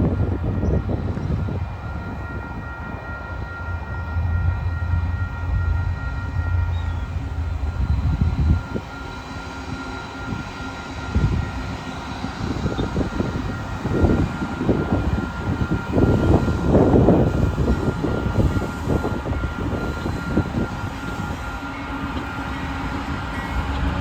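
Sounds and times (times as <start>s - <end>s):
diesel locomotive drone: 0.0s - 24.0s.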